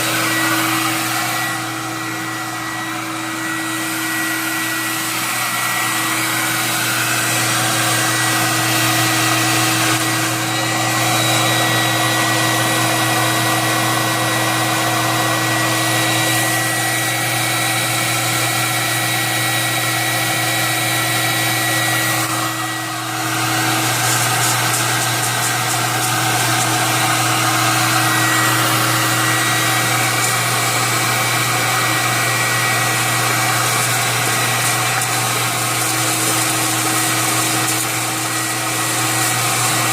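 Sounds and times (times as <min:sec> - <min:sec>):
hot-air popper fan whirring: 0:00.0 - 0:39.9.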